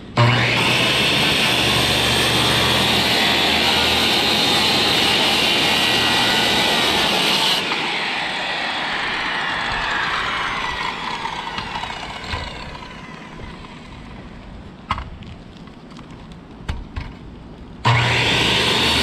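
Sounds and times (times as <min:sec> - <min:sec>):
circular saw running: 0:00.0 - 0:14.3, 0:17.9 - 0:19.0.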